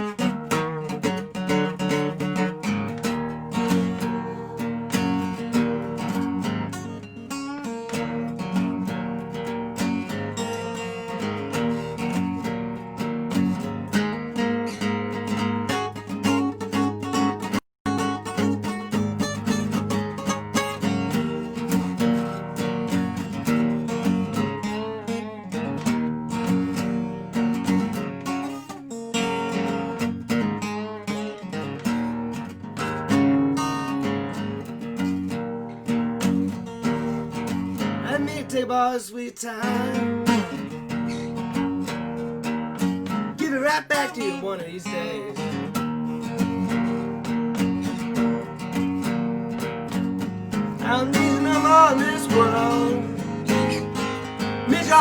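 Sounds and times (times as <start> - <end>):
resonator guitar blues playing: 0.0 - 55.0.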